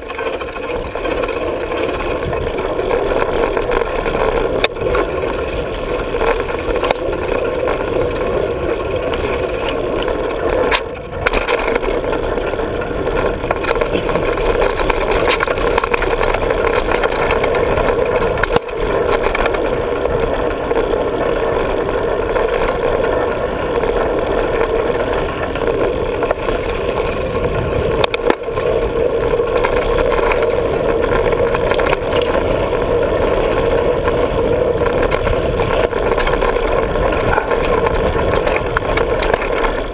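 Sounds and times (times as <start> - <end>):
bike tyres on dirt: 0.0 - 39.9
wind on microphone: 0.4 - 39.9.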